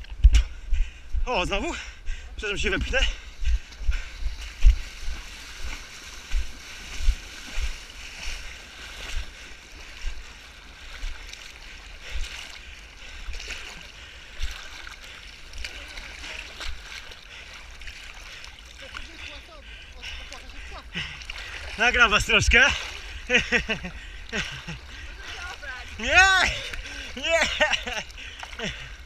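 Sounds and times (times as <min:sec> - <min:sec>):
wading and splashing in water: 0:00.0 - 0:29.0
footsteps running on mud: 0:02.6 - 0:29.0.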